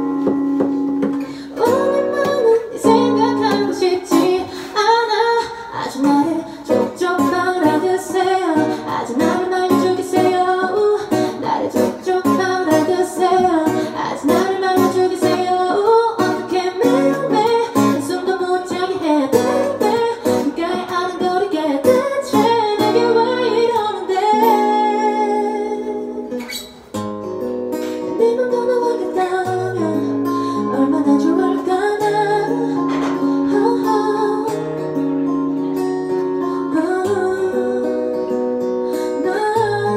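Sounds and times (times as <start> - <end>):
acoustic guitar strumming: 0.0 - 39.9
woman singing: 1.0 - 26.6, 27.9 - 39.9.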